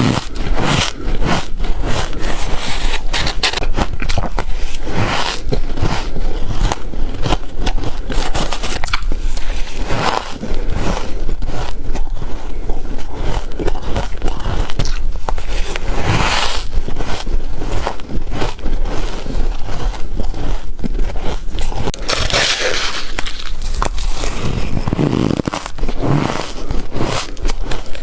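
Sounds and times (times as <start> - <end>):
chewing ice crunching: 0.0 - 28.0.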